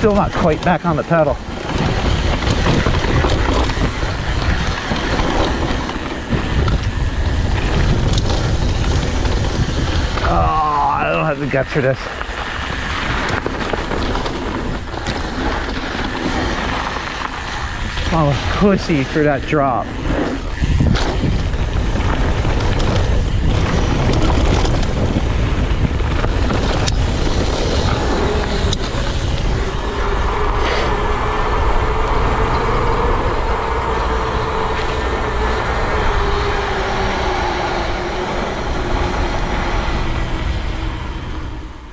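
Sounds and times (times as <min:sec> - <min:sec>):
bike knocking and rattling: 0:00.0 - 0:10.3, 0:12.1 - 0:36.8
tyres rolling over dirt: 0:00.0 - 0:41.5
steady whine: 0:00.0 - 0:41.9
wind rushing over microphone: 0:00.0 - 0:41.9.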